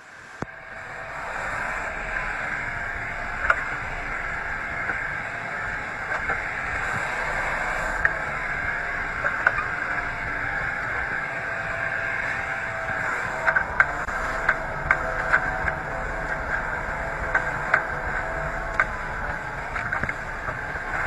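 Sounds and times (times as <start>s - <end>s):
truck vacuum suction rushing: 0.0s - 21.0s.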